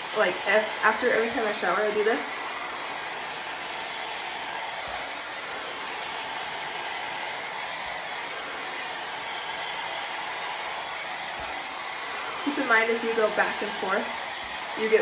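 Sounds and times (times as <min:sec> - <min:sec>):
blow dryer running: 0:00.0 - 0:15.0.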